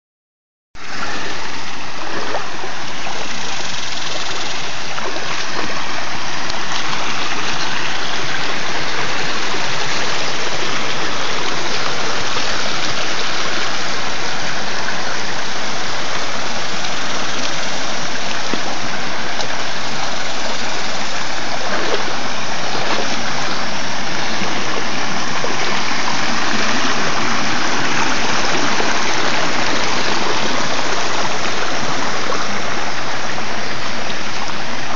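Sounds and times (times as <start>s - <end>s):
creek water babbling over rocks: 0.8s - 34.9s.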